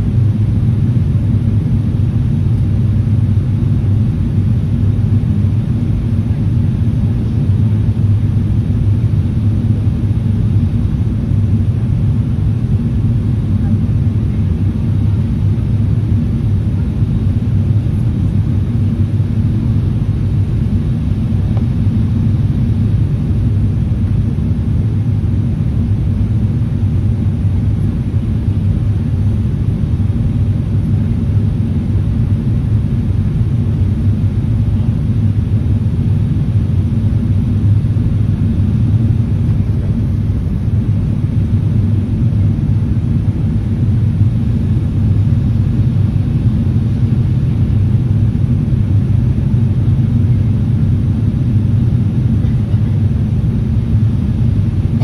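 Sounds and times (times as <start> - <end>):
jet engines and airflow rumble: 0.0 - 55.0.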